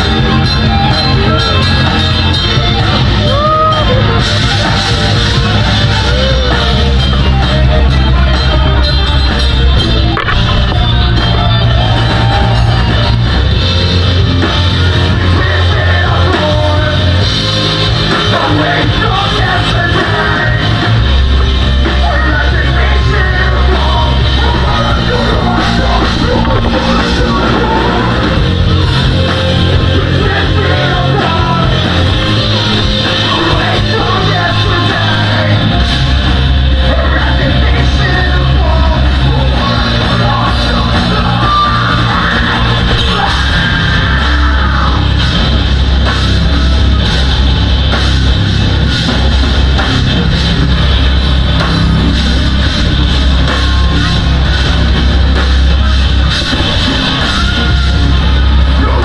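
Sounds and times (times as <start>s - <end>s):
live metal band playing: 0.0s - 59.0s
yelled vocals: 0.0s - 59.0s.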